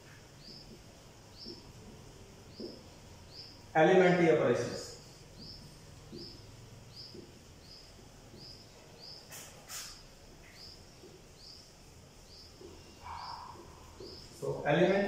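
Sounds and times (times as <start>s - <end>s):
marker pen on whiteboard: 0.0s - 3.1s, 4.9s - 15.0s
small bird chirping: 0.0s - 3.7s, 4.6s - 15.0s.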